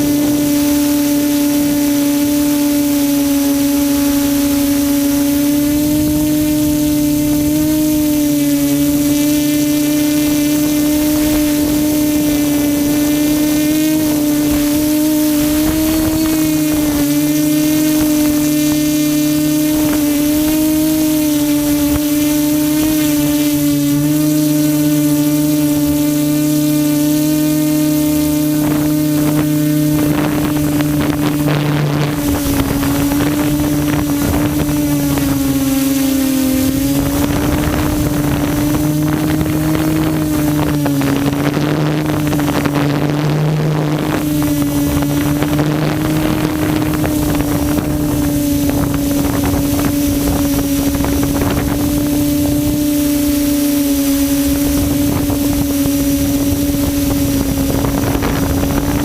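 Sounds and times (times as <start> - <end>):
quadcopter motors humming: 0.0 - 59.0
wind rushing on microphone: 0.0 - 59.0.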